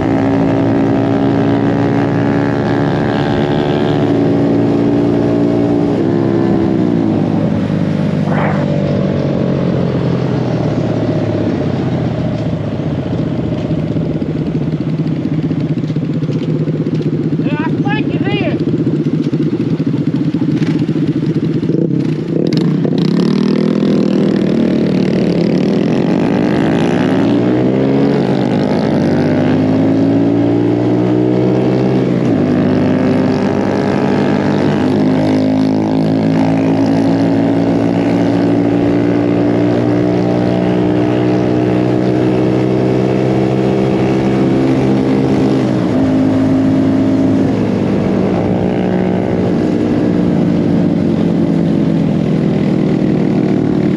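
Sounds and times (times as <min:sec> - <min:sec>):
mini bike engine revving: 0:00.0 - 0:09.1, 0:16.3 - 0:53.9.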